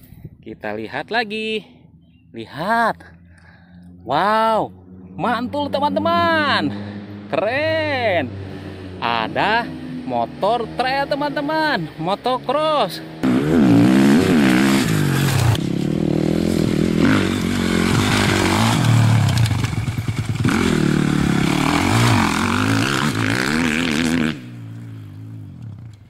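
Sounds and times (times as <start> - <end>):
dirt bike engine revving: 3.2 - 26.0.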